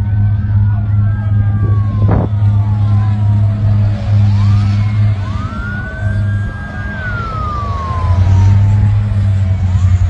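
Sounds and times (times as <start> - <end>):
emergency sirens wailing: 0.0 - 10.0
low hum: 0.0 - 10.0.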